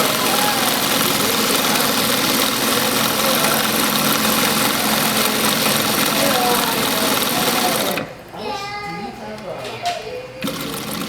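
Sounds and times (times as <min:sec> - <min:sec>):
sewing machine whirring: 0:00.0 - 0:08.5, 0:10.3 - 0:11.0.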